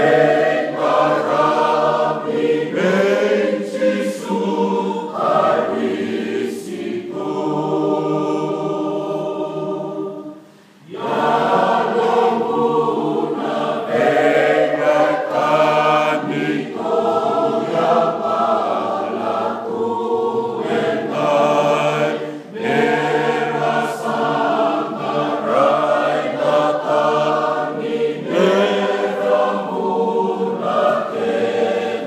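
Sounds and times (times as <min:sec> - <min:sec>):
group singing a hymn: 0:00.0 - 0:32.0.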